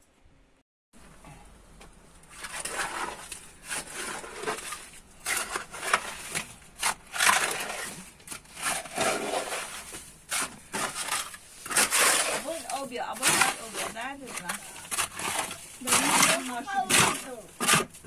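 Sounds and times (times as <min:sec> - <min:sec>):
scraping and crunching of earth: 0:02.2 - 0:18.0.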